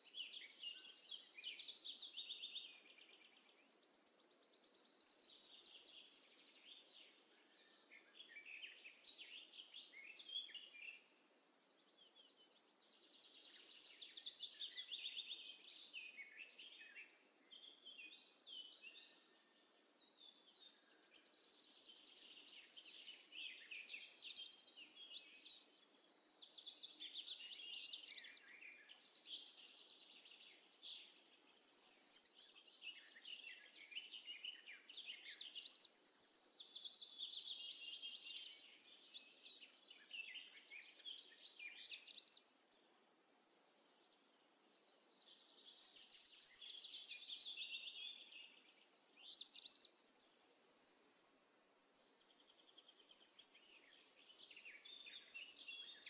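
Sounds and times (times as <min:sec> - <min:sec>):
birds chirping and singing: 0:00.1 - 0:11.1, 0:11.7 - 0:51.4, 0:52.1 - 0:56.0.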